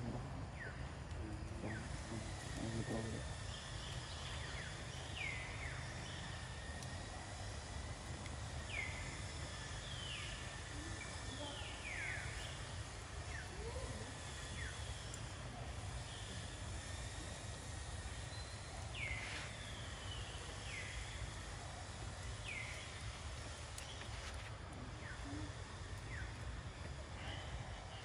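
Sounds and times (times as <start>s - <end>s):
outdoor hiss and rumble: 0.0s - 28.0s.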